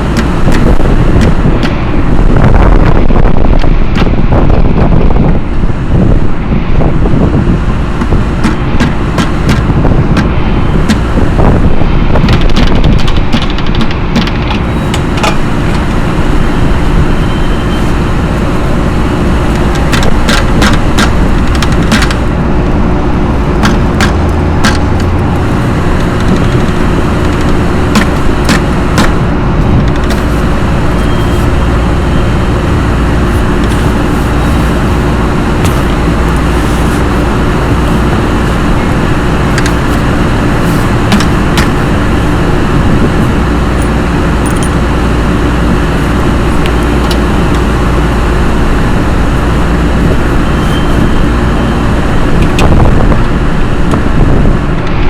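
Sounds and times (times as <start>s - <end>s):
exhaust fan hum and rush: 0.0s - 55.0s.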